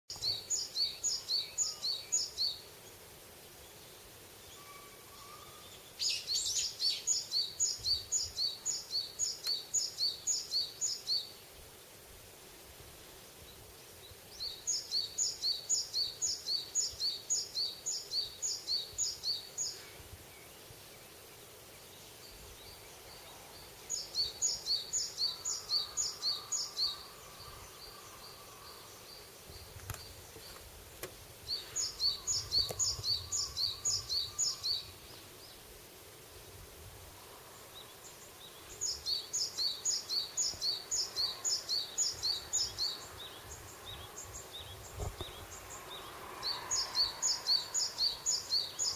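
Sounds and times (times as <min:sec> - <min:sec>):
faint forest ambience: 0:00.1 - 0:48.9.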